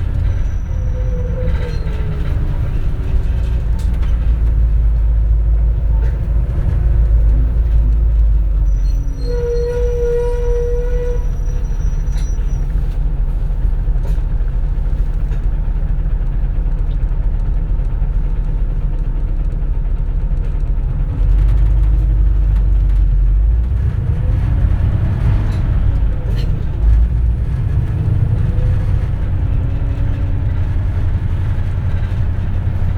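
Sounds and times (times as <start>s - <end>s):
bus engine and road rumble: 0.0s - 32.9s.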